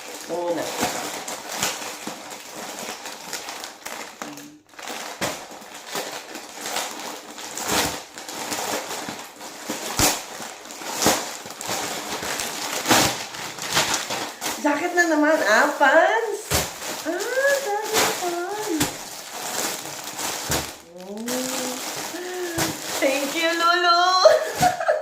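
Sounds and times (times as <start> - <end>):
packaging crinkling and rustling: 0.0 - 25.0.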